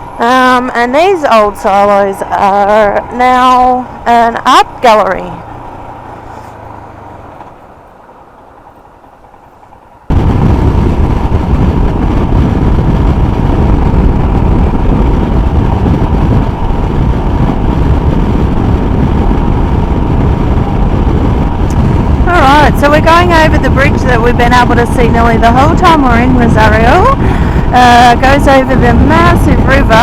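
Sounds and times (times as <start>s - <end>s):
wind rush on microphone: 0.0s - 8.9s, 9.6s - 30.0s
motorcycle engine: 0.0s - 30.0s.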